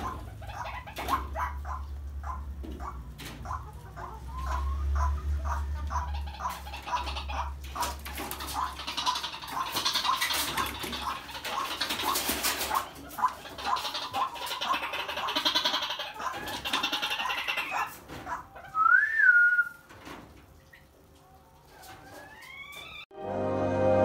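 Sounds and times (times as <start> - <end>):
waterhen calling: 0.0 - 19.9.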